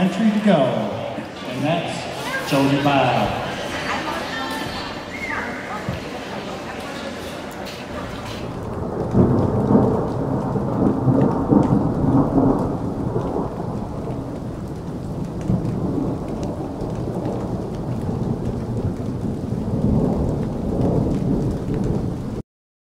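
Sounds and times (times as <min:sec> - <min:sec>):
low rolling thunder: 0:00.0 - 0:22.4
steady rain: 0:00.0 - 0:22.4.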